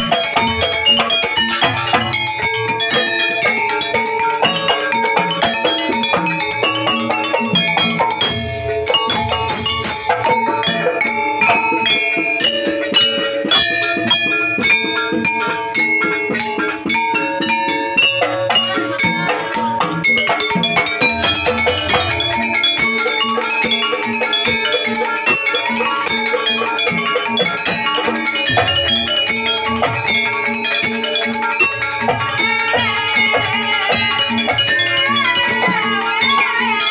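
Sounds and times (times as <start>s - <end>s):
drums: 0.0s - 36.9s
struck metal keyed instruments: 0.0s - 36.9s.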